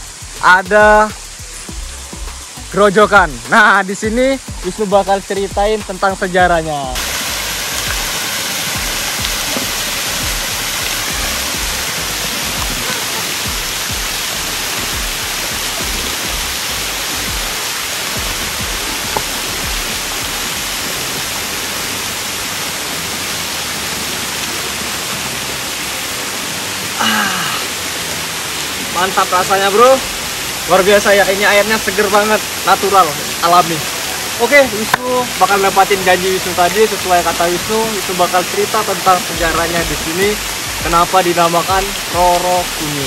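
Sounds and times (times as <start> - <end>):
background music: 0.0 - 43.0
waterfall rushing: 0.0 - 43.0.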